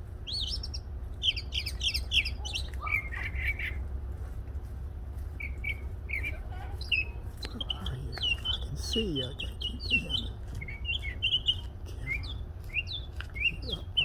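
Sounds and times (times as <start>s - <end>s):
low steady rumble: 0.0s - 14.0s
songbird singing: 0.0s - 14.0s.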